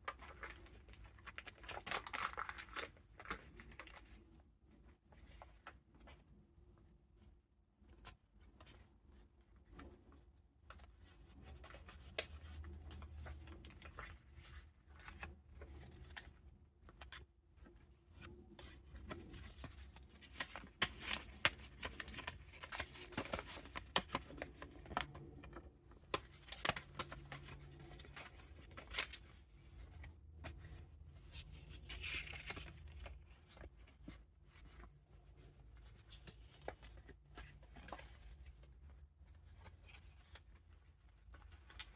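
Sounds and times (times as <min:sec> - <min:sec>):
paper pages rustling and crinkling: 0:00.0 - 0:06.4, 0:07.8 - 0:41.9.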